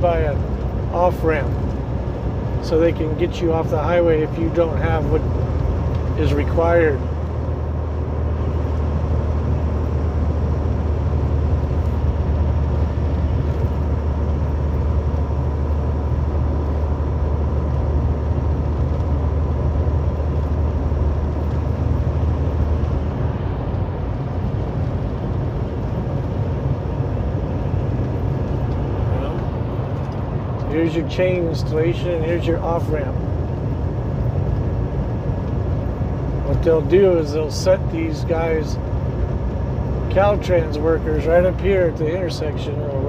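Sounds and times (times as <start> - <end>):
road and wind noise: 0.0 - 43.0
truck engine drone: 0.0 - 43.0.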